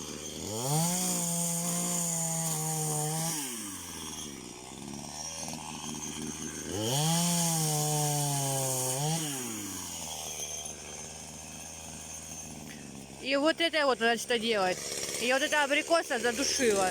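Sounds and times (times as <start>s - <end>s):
chainsaw engine idling and revving: 0.0s - 16.9s.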